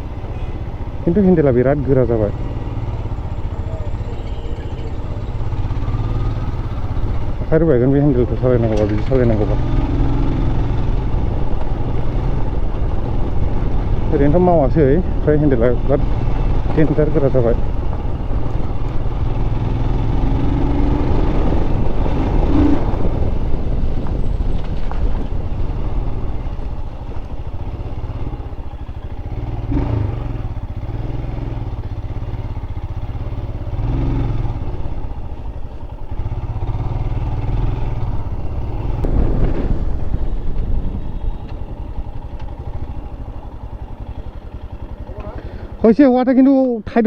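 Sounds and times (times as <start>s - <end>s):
motorcycle engine rumbling: 0.0s - 47.0s.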